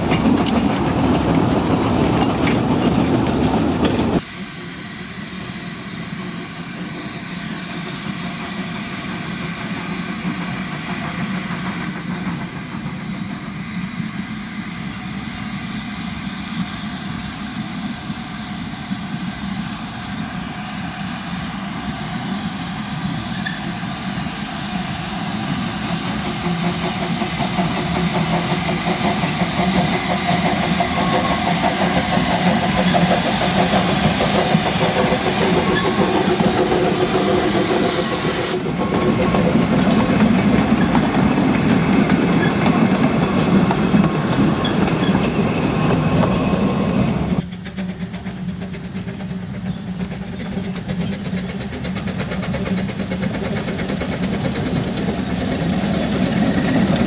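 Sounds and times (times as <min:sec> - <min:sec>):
steam locomotive approaching: 0:00.0 - 0:57.0
steam locomotive passing: 0:00.0 - 0:57.0.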